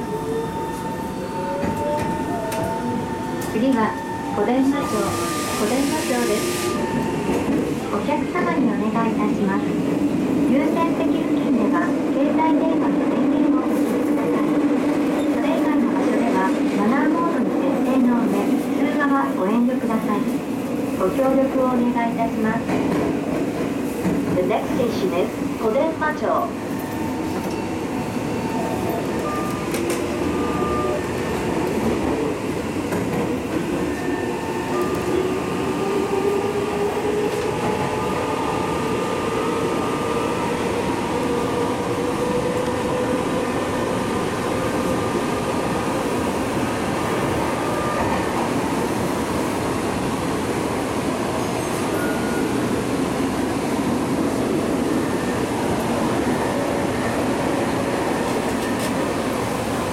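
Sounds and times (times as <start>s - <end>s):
rising whine of train: 0.0s - 59.9s
subway train rumbling on track: 0.0s - 59.9s.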